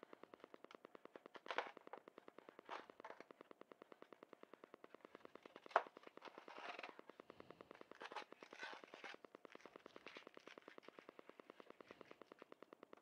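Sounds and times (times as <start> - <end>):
fast even ticking: 0.0 - 13.0.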